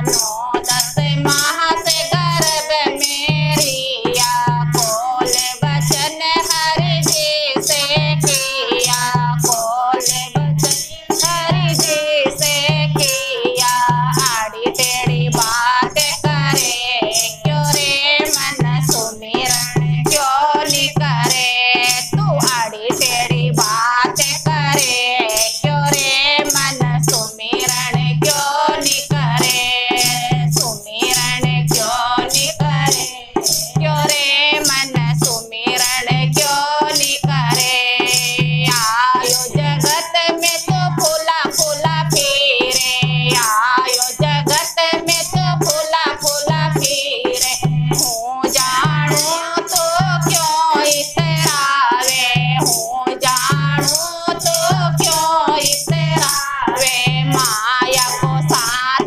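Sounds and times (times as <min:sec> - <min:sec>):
hand drum beat: 0:00.0 - 0:59.0
hand-held clappers rattling: 0:00.0 - 0:59.0
women singing devotional song: 0:00.0 - 0:59.0.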